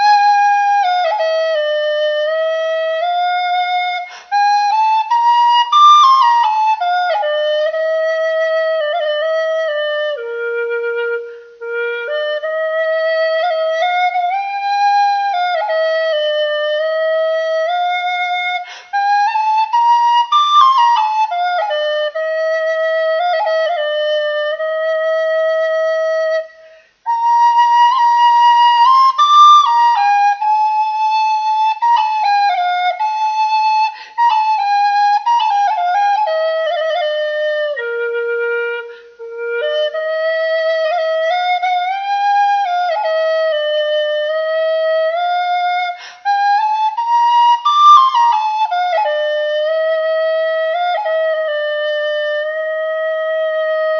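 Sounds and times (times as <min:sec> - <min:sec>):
tin whistle melody: 0:00.0 - 0:53.9.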